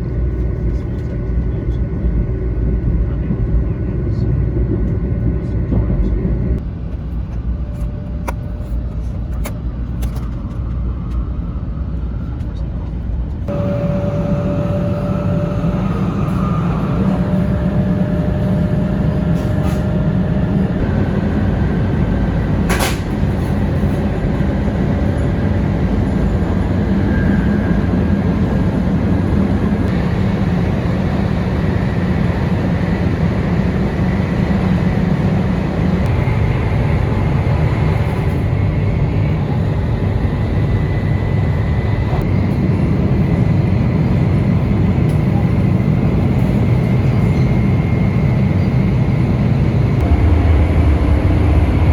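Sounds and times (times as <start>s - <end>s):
train cabin low rumble: 0.0s - 51.9s.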